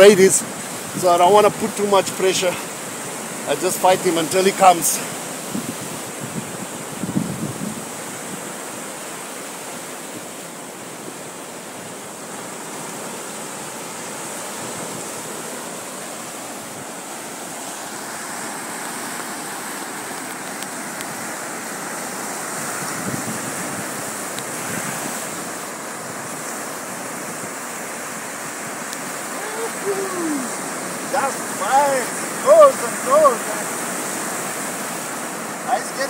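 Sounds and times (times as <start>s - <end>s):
ocean surf breaking on beach: 0.0s - 36.0s.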